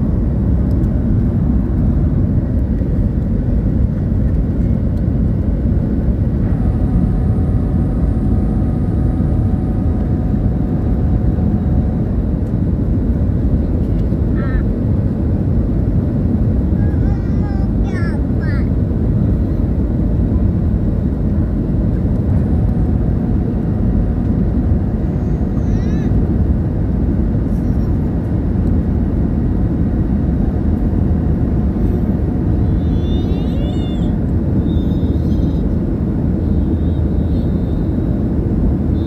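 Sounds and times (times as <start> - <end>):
jet airliner cabin noise: 0.0 - 39.0.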